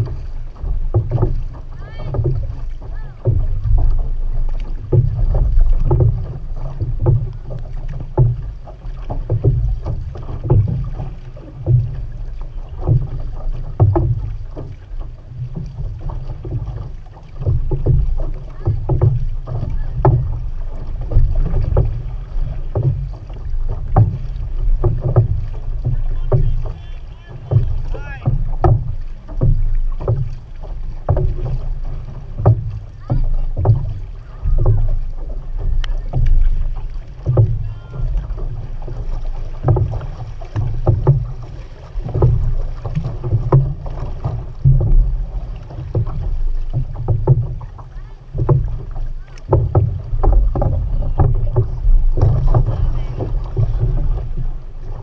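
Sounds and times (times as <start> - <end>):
low water rumble: 0.0 - 55.0
paddles splashing into water: 0.0 - 55.0
water rushing along hull: 0.0 - 55.0.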